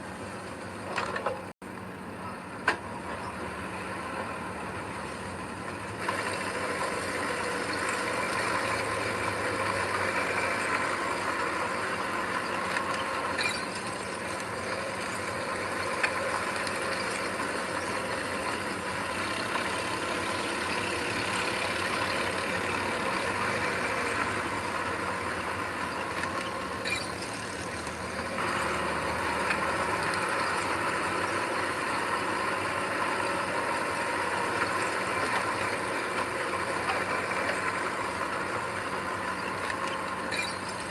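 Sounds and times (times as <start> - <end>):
heavy machinery diesel engine: 0.0 - 40.9.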